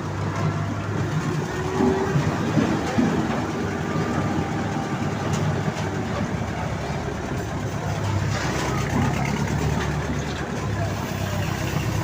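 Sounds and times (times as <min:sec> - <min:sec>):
road roller engine running: 0:00.0 - 0:12.0.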